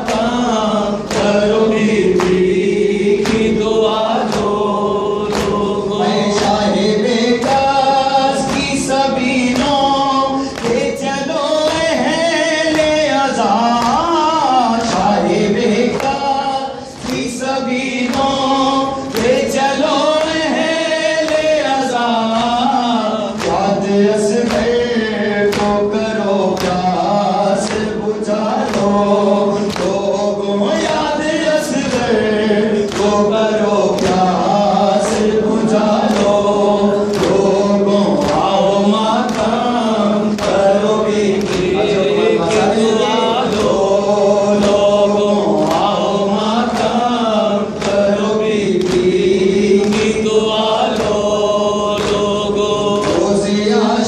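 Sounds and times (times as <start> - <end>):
group of men chanting: 0.0 - 54.0
man chanting into microphone: 0.0 - 54.0.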